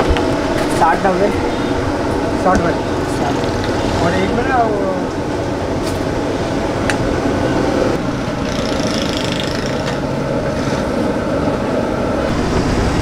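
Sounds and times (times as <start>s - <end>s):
roadside traffic: 0.0s - 13.0s.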